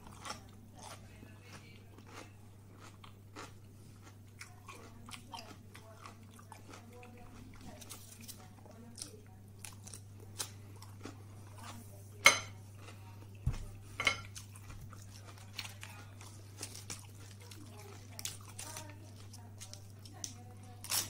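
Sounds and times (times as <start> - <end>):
chewing raw cucumber: 0.0 - 11.9, 12.6 - 21.0.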